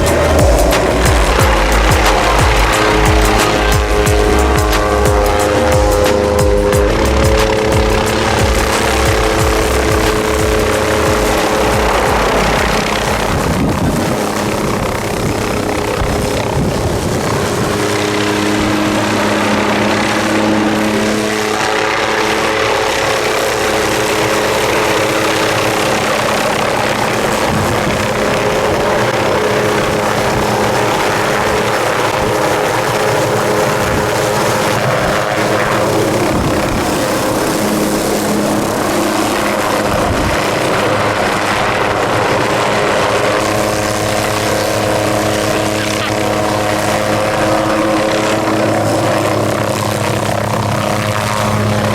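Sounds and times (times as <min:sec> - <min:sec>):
helicopter engine and rotor: 0:00.0 - 0:51.9.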